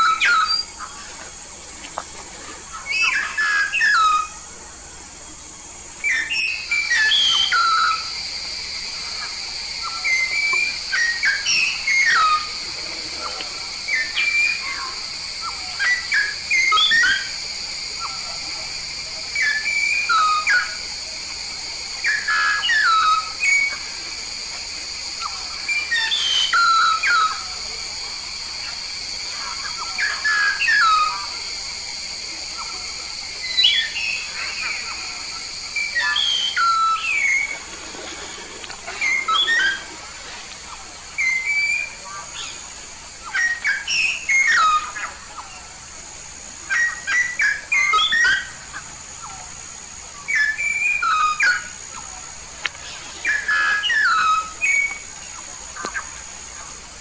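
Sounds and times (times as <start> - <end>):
myna whistled calls: 0.0 - 1.0, 2.7 - 4.4, 6.0 - 24.0, 25.0 - 45.8, 46.5 - 56.7.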